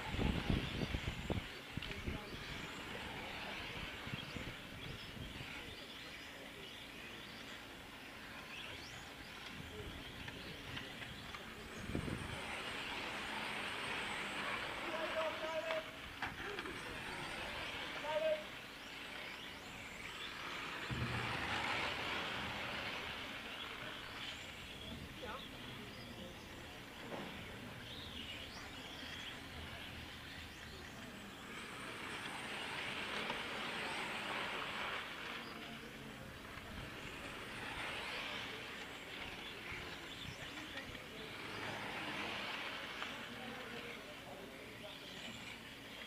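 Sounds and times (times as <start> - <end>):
rc cars motors and tyres hissing: 0.0 - 46.0.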